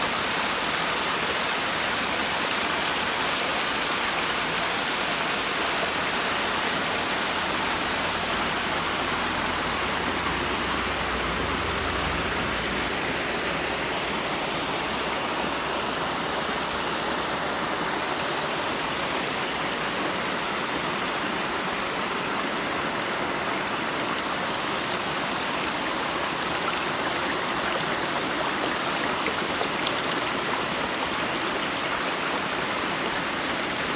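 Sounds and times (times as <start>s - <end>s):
flowing water rushing: 0.0s - 33.9s.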